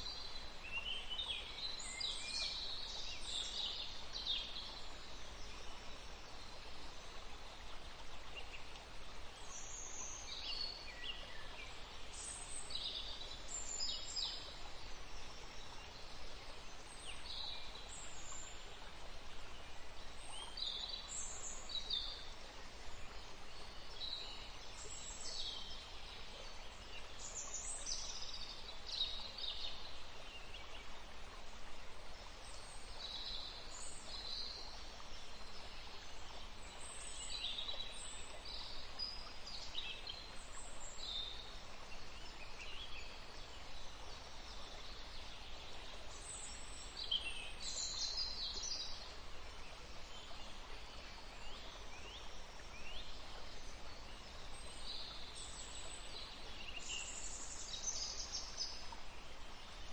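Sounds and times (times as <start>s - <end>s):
faint background hiss: 0.0s - 59.9s
songbirds chirping: 0.0s - 59.9s.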